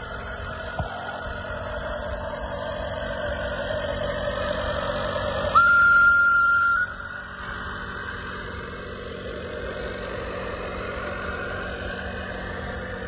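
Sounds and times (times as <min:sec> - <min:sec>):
model locomotive diesel engine: 0:00.0 - 0:13.0.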